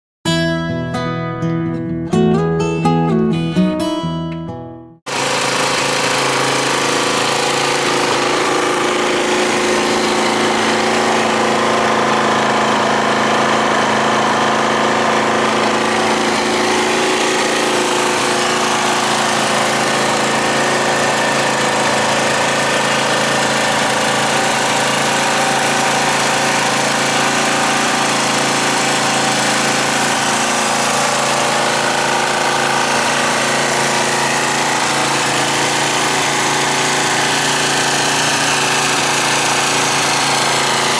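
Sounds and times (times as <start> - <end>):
single-cylinder engine idling: 5.1 - 40.9.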